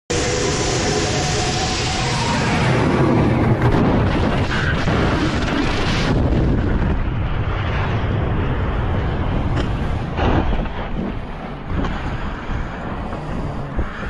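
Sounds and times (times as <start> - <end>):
heavy low rumble: 0.1 - 14.0
roar of rushing air: 0.1 - 14.0.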